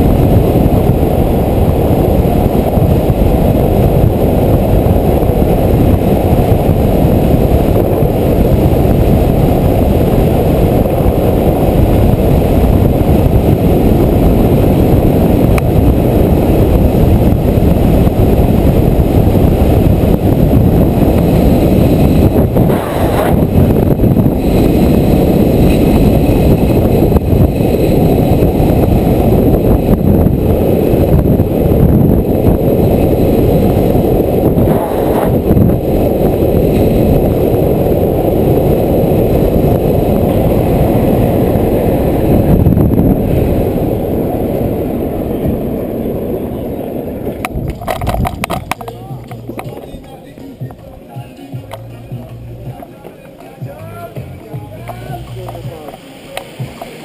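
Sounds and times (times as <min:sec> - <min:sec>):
skateboard wheels rolling on asphalt: 0:00.0 - 0:57.0
wind rumble on microphone: 0:00.0 - 0:57.0.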